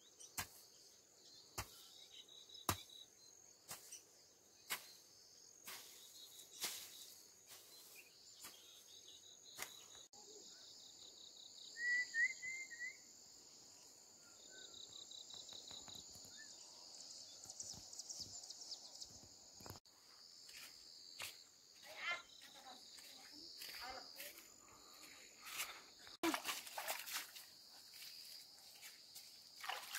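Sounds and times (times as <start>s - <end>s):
crickets and insects trilling: 0.7s - 29.9s.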